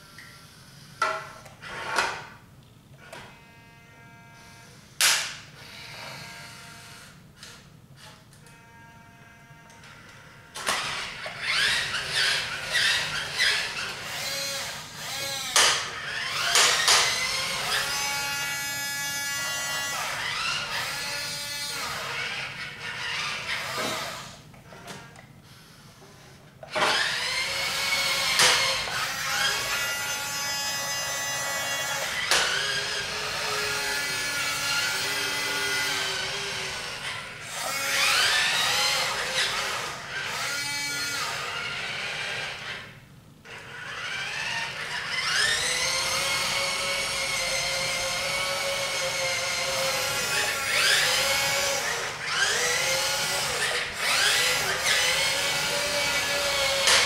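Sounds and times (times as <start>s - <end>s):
small electric motors whining: 5.6s - 57.0s.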